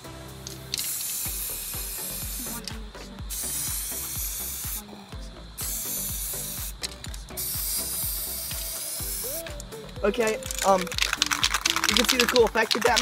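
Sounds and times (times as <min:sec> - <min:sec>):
low rhythmic pulse: 0:00.0 - 0:13.0
spray can hissing: 0:00.3 - 0:05.0, 0:05.6 - 0:13.0.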